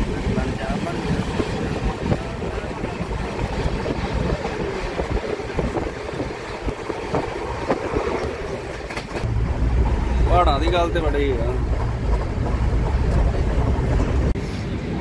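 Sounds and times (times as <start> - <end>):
train rumbling on track: 0.0 - 15.0
wind buffeting microphone: 0.0 - 15.0.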